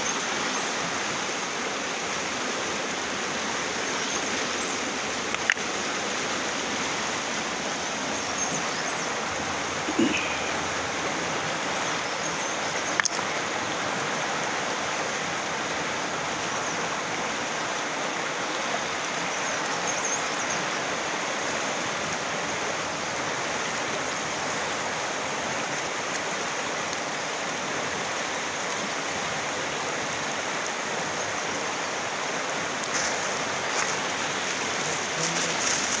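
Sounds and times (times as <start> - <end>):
river rushing over rocks: 0.0 - 36.0.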